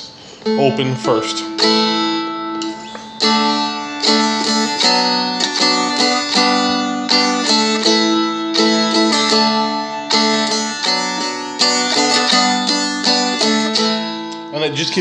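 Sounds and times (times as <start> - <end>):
strummed dulcimer chords: 0.0 - 15.0.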